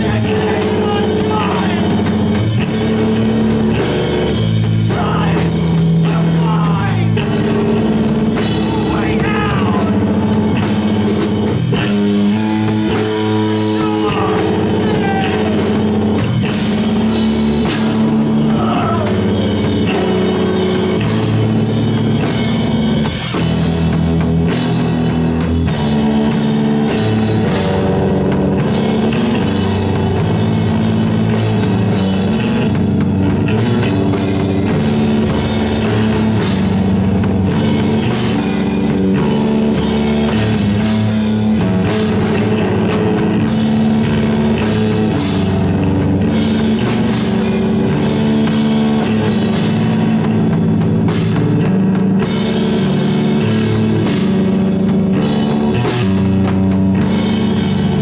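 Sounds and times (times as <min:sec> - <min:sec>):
drum kit: 0:00.0 - 0:58.0
electric bass guitar: 0:00.0 - 0:58.0.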